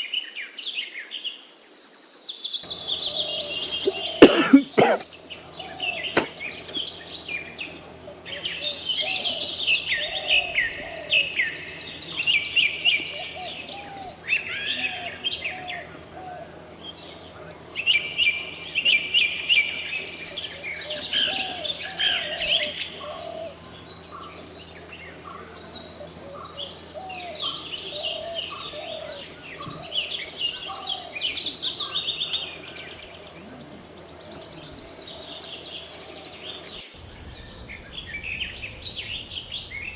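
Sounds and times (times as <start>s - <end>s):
songbirds singing and chirping: 0.1s - 39.9s.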